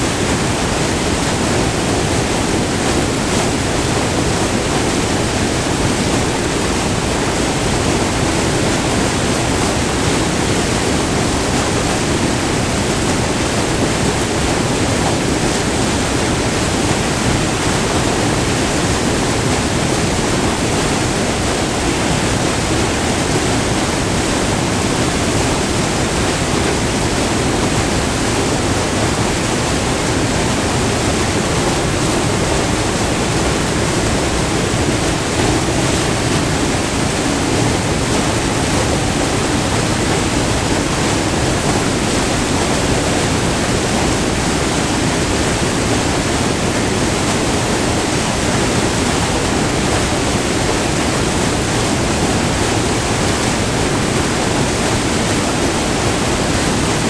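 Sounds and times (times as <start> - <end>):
waterfall roaring over rock: 0.0 - 57.0.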